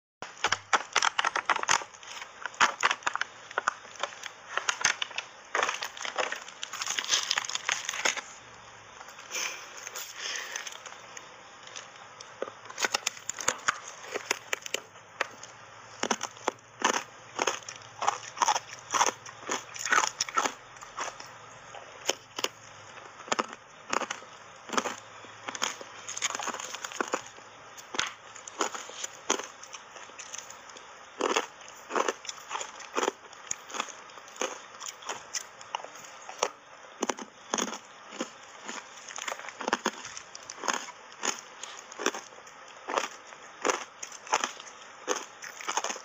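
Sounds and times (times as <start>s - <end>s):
ice crunching being chewed: 0.2s - 46.0s.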